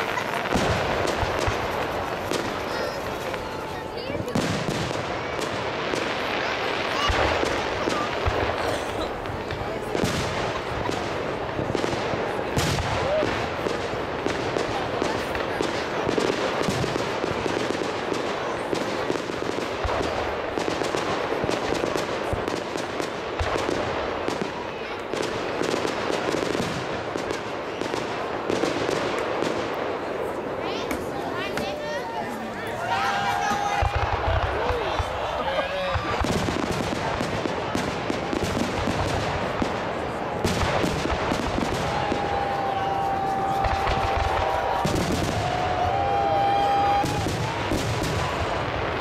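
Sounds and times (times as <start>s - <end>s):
fireworks booms: 0.0s - 49.0s
fireworks crackling: 0.0s - 49.0s.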